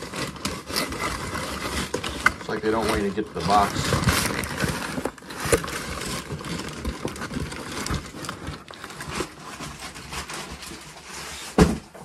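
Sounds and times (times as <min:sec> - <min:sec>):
cardboard box being opened: 0:00.0 - 0:12.0
packing rustling and crinkling: 0:00.0 - 0:12.0.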